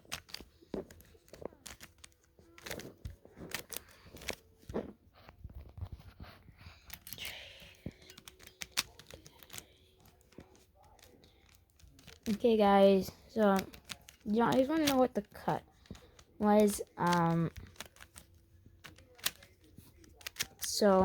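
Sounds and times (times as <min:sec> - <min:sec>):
puzzle cube plastic clicks: 0:00.0 - 0:04.8, 0:06.8 - 0:21.0.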